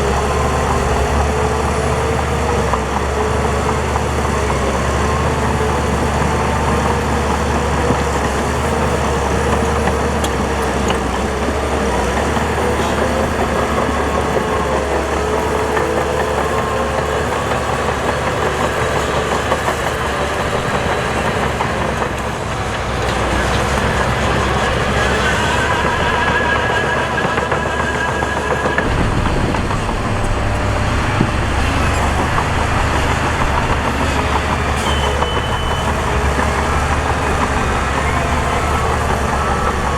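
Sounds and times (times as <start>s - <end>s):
heavy machinery diesel engines: 0.0s - 39.9s
high engine whine: 0.0s - 39.9s.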